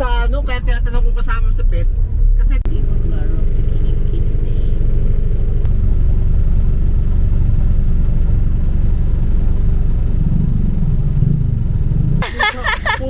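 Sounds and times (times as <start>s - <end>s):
motor running low rumble: 0.0s - 13.0s.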